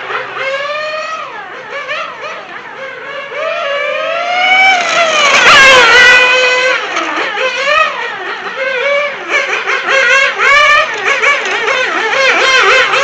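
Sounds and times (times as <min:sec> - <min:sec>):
high-pitched model car engine: 0:00.0 - 0:13.0.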